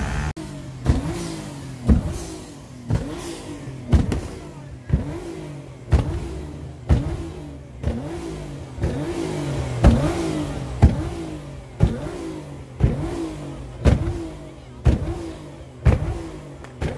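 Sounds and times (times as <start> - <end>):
car engine revving: 0.0 - 16.9
exhaust bangs: 0.0 - 16.9.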